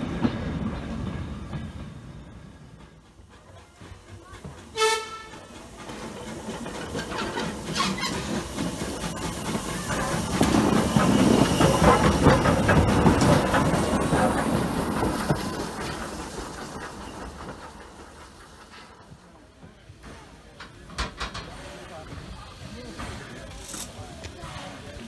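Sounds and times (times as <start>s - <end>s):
locomotive wheels clattering: 0.1s - 25.0s
steam hissing: 1.2s - 25.0s.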